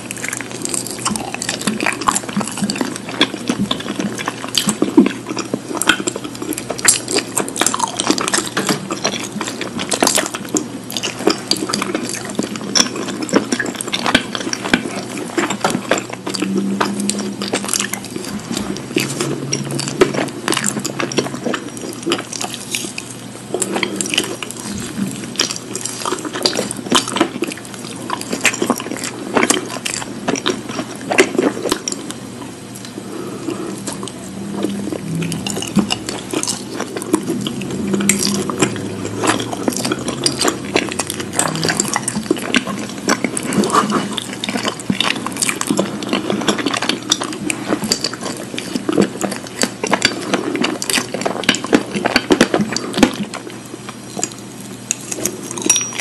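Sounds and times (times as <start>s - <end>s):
wet chewing clicks and smacks: 0.0s - 33.0s, 33.8s - 56.0s.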